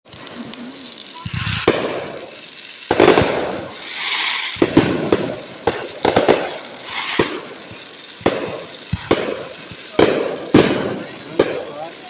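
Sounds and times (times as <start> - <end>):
fireworks hiss: 0.0 - 12.0
fireworks bangs: 0.1 - 12.0.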